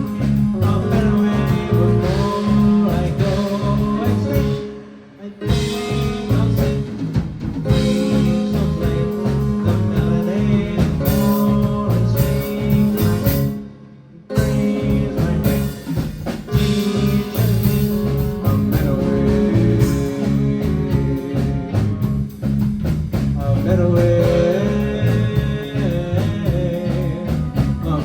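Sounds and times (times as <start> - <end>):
live band playing instrumental: 0.0 - 28.0.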